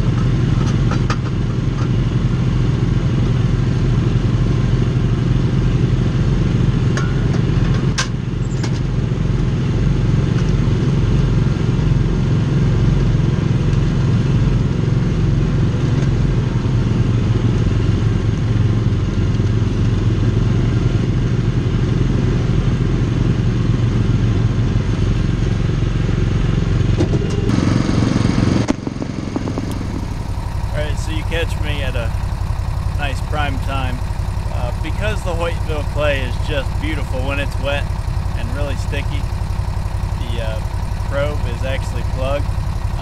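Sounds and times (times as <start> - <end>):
utility vehicle engine running: 0.0 - 43.0.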